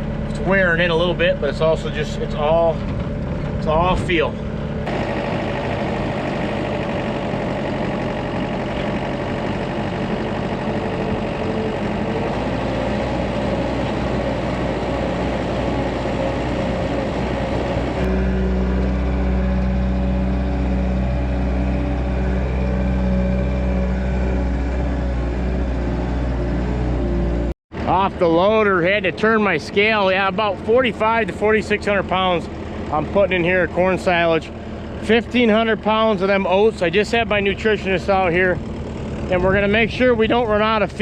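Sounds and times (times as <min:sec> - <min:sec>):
loader engine running: 0:00.0 - 0:41.0.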